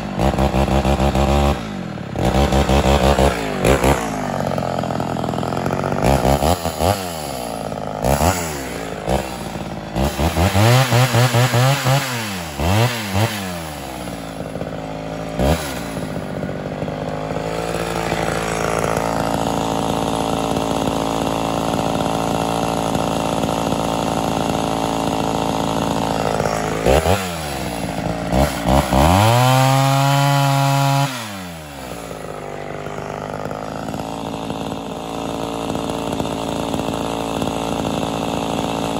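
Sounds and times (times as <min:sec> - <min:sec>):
chainsaw engine revving and idling: 0:00.0 - 0:38.9.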